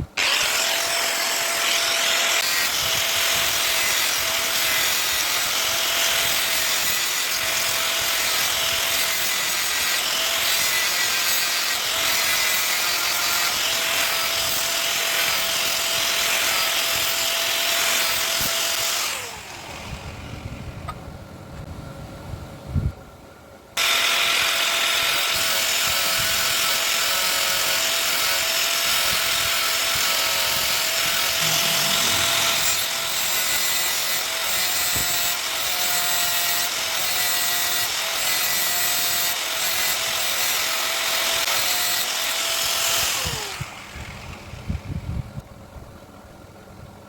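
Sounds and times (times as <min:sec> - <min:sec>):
electric grinder grinding metal: 0:00.2 - 0:19.9, 0:23.8 - 0:43.9.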